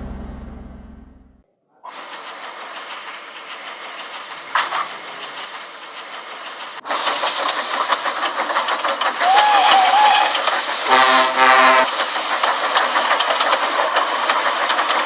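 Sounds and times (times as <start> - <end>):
steam hissing: 1.8 - 15.0
locomotive rhythmic clatter: 1.9 - 15.0.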